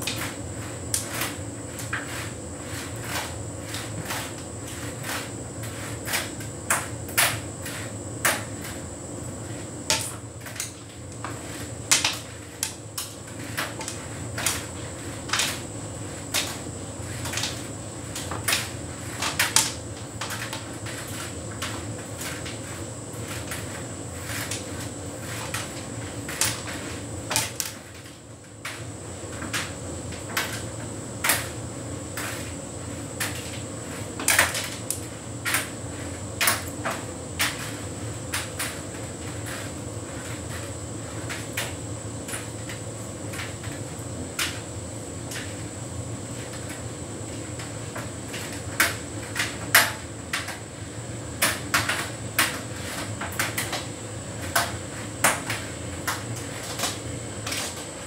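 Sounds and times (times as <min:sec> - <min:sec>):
tumble dryer hum: 0:00.0 - 0:58.0.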